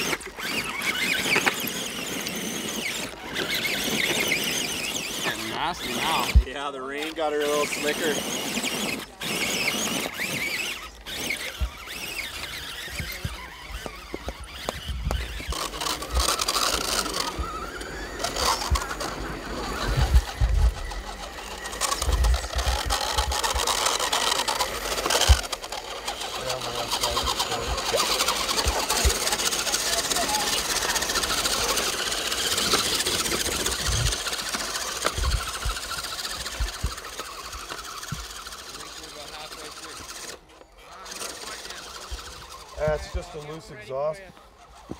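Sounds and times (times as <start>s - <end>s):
rc truck motor whine: 0.0s - 44.9s.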